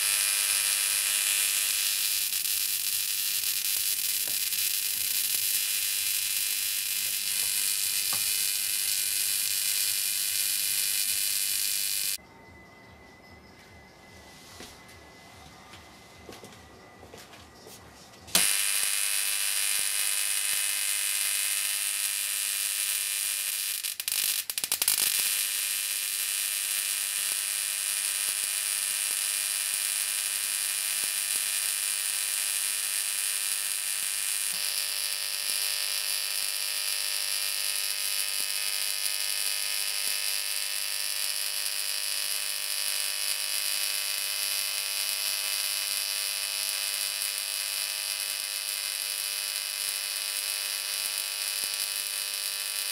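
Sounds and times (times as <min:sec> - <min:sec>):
electric arcs buzzing: 0:00.0 - 0:12.2, 0:18.3 - 0:52.9.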